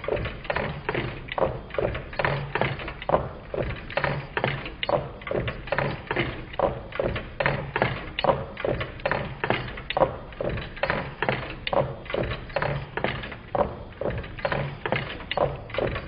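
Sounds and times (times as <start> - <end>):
stirling engine knocking: 0.0 - 16.0.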